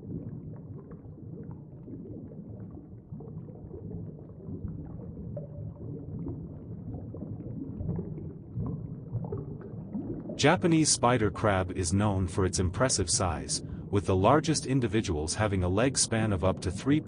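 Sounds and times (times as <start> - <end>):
low murky rumble: 0.0 - 17.0.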